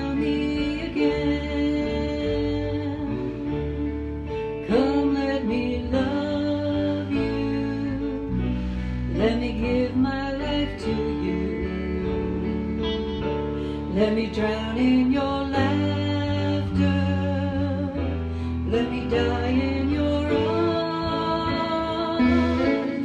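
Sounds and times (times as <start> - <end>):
electric bass: 0.0 - 23.0
person singing: 0.0 - 23.0.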